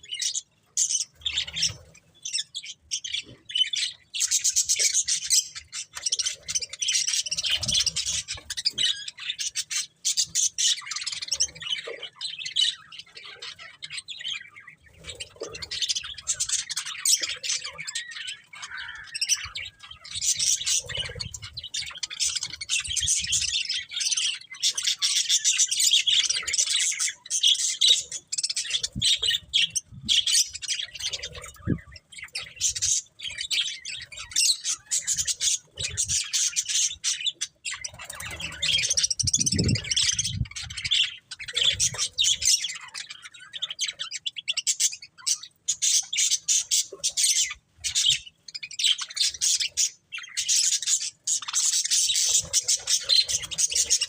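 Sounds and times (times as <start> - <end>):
budgerigars chirping: 0.0 - 54.0.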